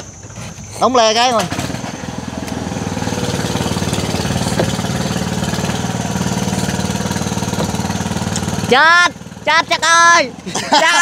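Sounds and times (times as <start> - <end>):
boat engine chugging: 0.9 - 11.0.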